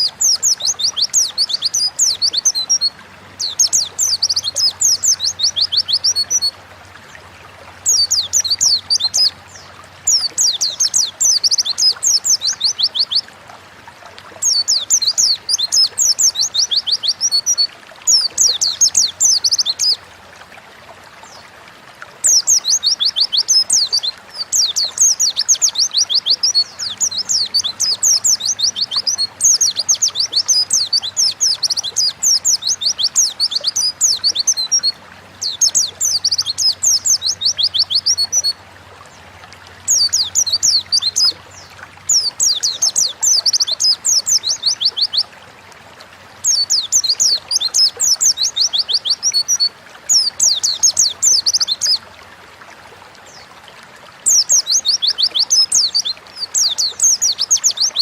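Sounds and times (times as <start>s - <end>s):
bird singing high twittering song: 0.0s - 6.6s, 7.8s - 13.3s, 14.4s - 20.0s, 22.2s - 38.6s, 39.8s - 45.3s, 46.4s - 52.0s, 54.2s - 58.0s.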